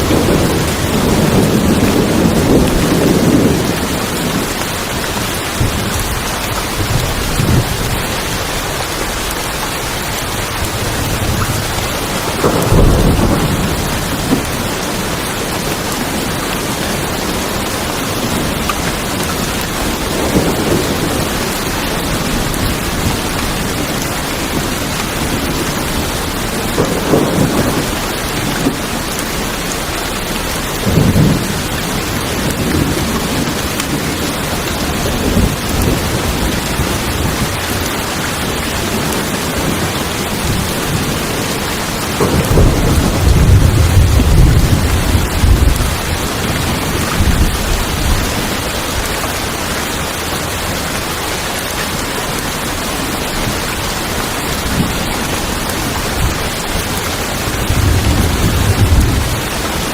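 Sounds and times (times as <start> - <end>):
heavy rain on a tin roof: 0.0 - 59.9
thunder rumbling: 0.0 - 59.9.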